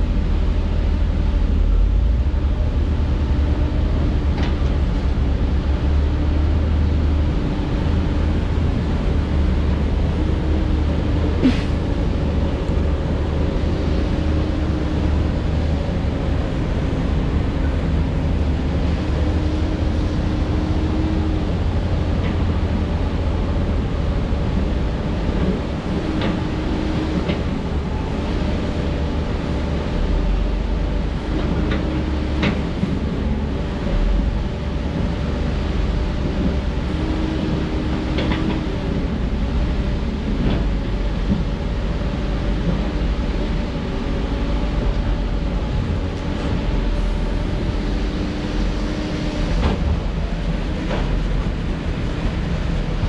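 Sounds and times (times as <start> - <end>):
excavator diesel engine rumbling: 0.0 - 53.0.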